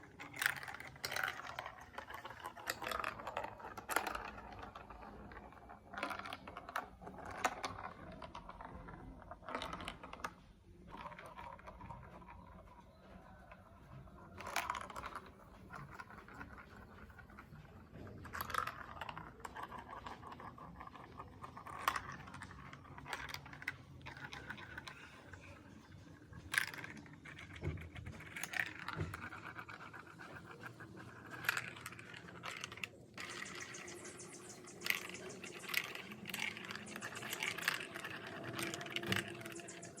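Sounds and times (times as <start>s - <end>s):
sharp plastic clicks and clatters: 0.0s - 12.4s, 14.3s - 40.0s
marbles rolling along tracks: 0.0s - 40.0s.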